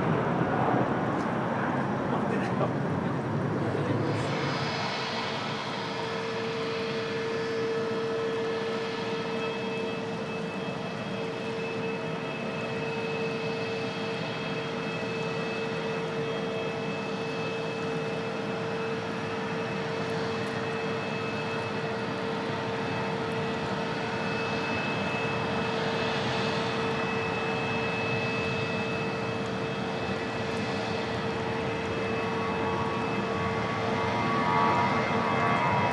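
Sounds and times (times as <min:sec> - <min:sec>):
jet engines droning: 0:00.0 - 0:35.9.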